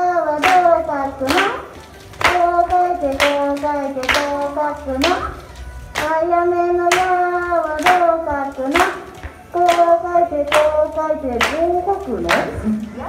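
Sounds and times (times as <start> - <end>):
sharp hand clap: 0.3 - 6.3, 6.9 - 12.7.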